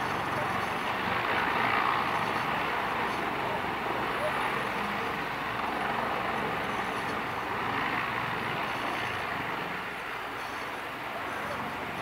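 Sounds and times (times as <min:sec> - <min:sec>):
helicopter turbine and rotor noise: 0:00.0 - 0:12.0.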